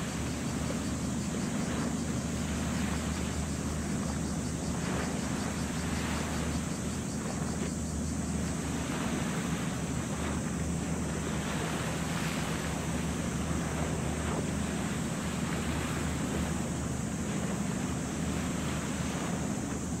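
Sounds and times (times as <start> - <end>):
low even hum: 0.0 - 20.0
sea noise: 0.0 - 20.0
wind: 0.0 - 20.0.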